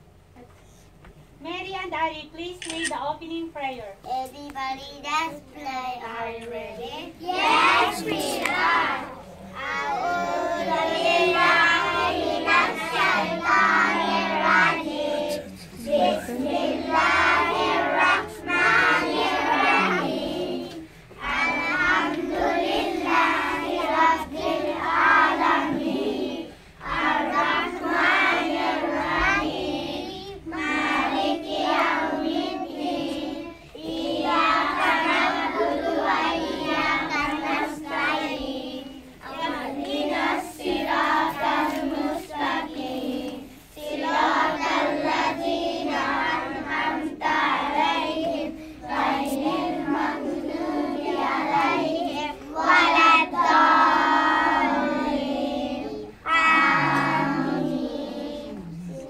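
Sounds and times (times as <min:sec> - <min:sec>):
children chanting a prayer: 0:05.7 - 0:59.0.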